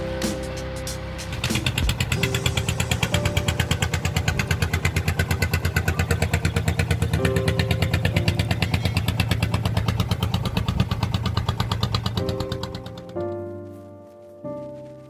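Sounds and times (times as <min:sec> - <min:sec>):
diesel engine idling: 0:01.0 - 0:13.1.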